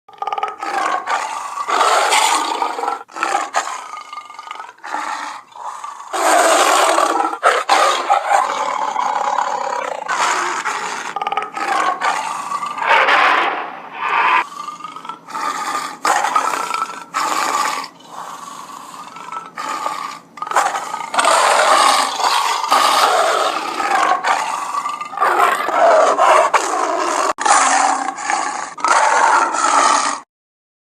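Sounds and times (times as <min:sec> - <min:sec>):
big cat roars and snarls: 0:00.1 - 0:30.3.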